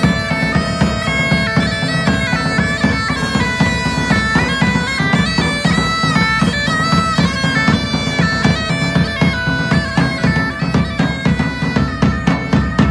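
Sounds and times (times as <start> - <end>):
bagpipes playing a melody: 0.0 - 12.9
drums beating: 0.0 - 12.9.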